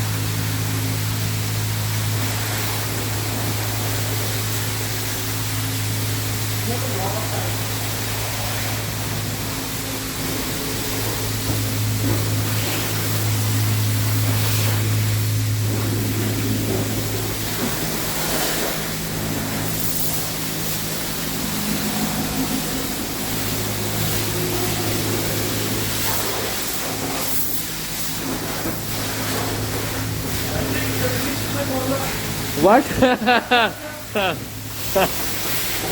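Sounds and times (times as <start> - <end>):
low pump hum: 0.0 - 35.9.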